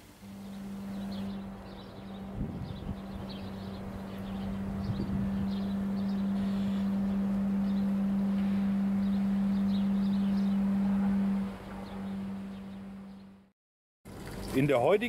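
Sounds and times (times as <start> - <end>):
steady low hum: 0.0 - 13.5
faint high bird chirps: 0.3 - 13.4.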